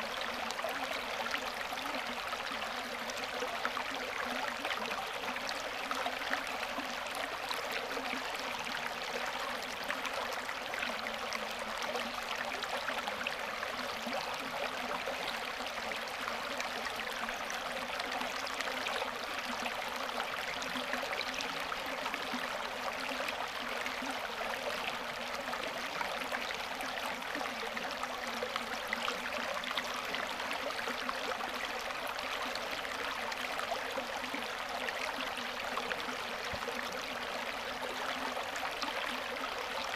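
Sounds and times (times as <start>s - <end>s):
creek water babbling over rocks: 0.0s - 39.9s.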